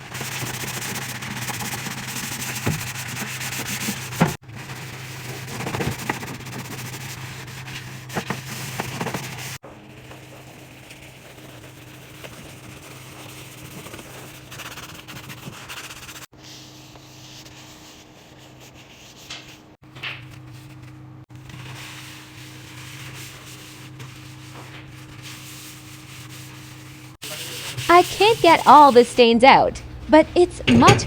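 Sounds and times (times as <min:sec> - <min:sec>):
scrubbing inside microwave: 0:00.0 - 0:16.4, 0:17.0 - 0:29.5.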